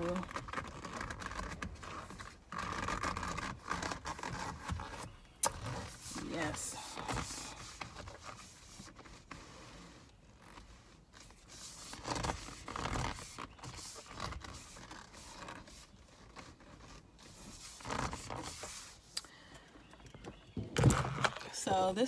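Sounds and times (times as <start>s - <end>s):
steering wheel cover rubbing: 0.0s - 19.2s.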